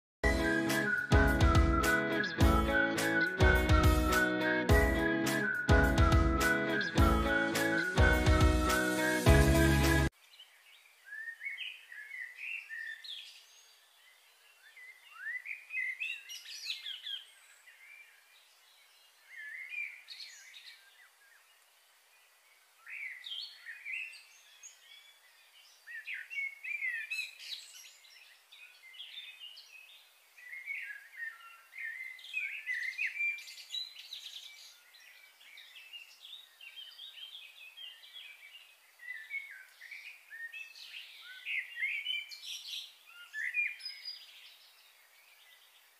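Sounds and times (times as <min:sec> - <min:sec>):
birds chirping and singing: 0:00.2 - 0:10.1, 0:10.9 - 0:21.4, 0:22.8 - 0:45.9.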